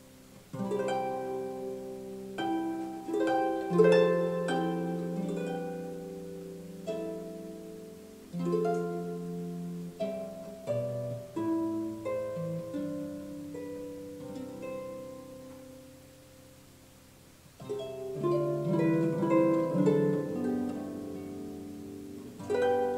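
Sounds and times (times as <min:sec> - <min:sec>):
slow plucked harp music: 0:00.0 - 0:22.9.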